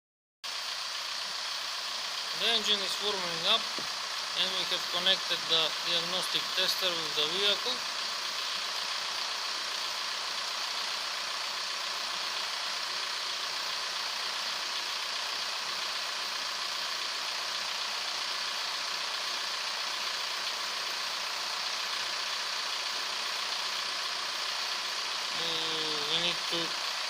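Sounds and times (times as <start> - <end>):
diesel engine idling: 0.5 - 27.0.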